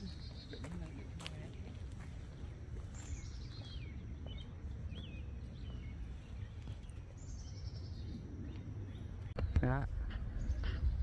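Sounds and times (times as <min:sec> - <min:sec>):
songbirds singing: 0:00.0 - 0:11.0
steady low rumble: 0:00.0 - 0:11.0.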